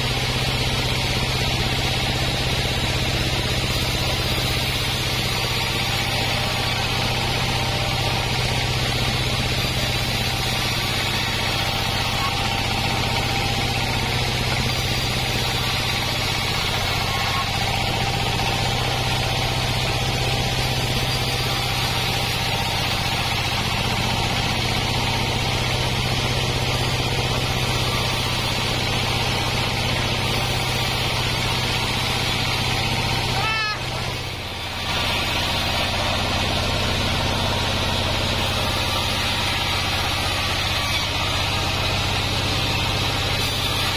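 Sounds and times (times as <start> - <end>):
band sawmill humming: 0.0 - 43.9
saw blade cutting log: 0.0 - 43.9.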